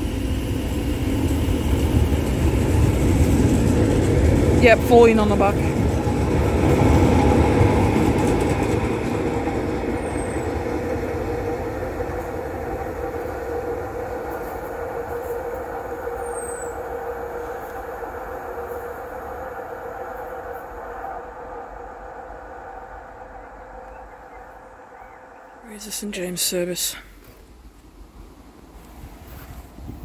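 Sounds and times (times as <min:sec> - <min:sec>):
electric train running: 0:00.0 - 0:25.6.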